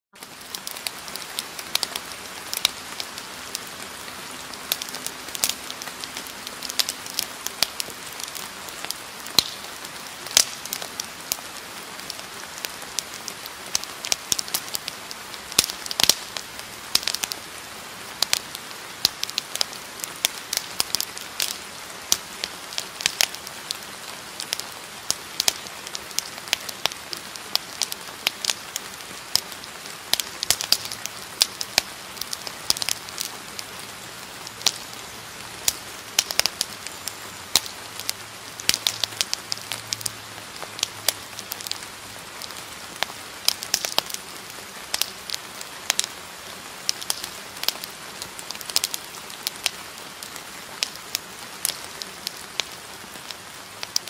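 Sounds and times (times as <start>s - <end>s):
sharp crackles and pops: 0.1s - 54.0s
steady hiss: 0.2s - 54.0s.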